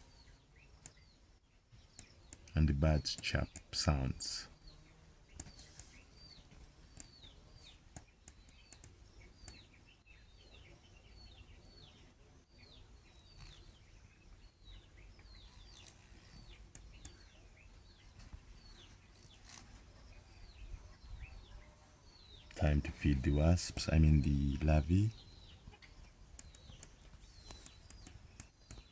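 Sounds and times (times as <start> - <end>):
birds chirping faintly: 0.0 - 28.9.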